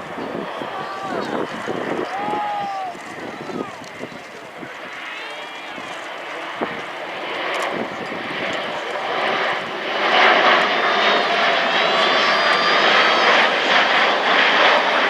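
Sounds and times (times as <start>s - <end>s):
turboprop engines whining in flight: 0.0s - 15.0s.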